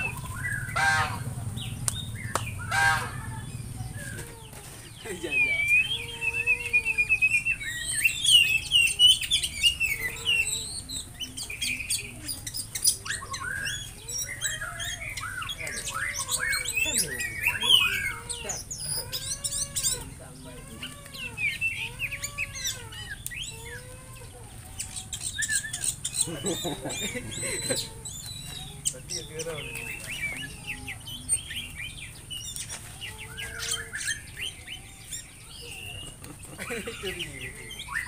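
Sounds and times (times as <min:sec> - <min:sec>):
bird chirping and whistling: 0:00.0 - 0:38.0.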